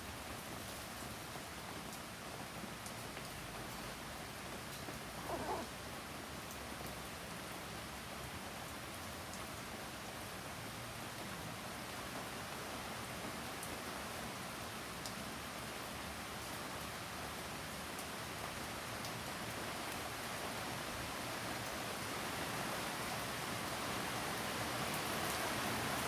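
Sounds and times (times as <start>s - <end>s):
faint ticks of raindrops: 0.0s - 26.0s.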